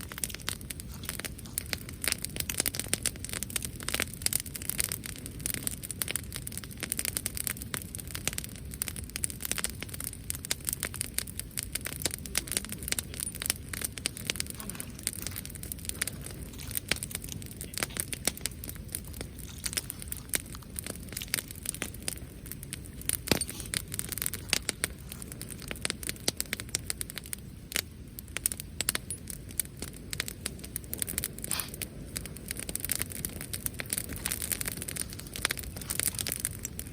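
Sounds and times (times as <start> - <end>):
campfire crackling and popping: 0.0 - 36.9.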